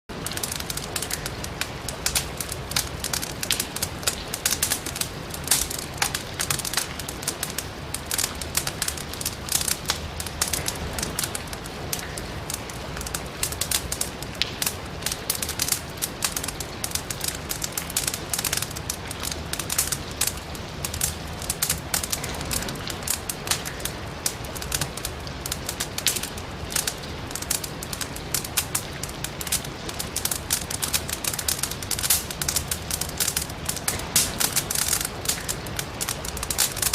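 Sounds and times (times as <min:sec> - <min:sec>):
firewood crackling and popping: 0:00.1 - 0:36.9
rain hissing: 0:00.1 - 0:36.9.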